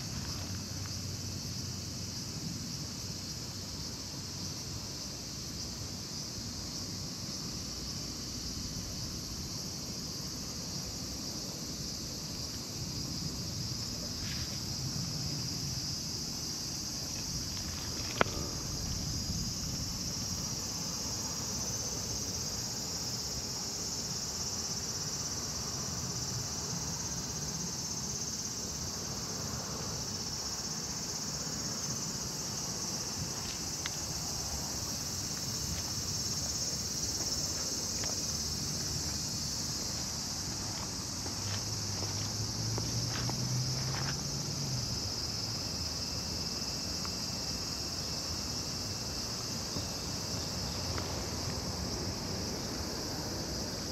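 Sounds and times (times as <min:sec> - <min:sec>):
insect chorus drone: 0:00.0 - 0:53.9.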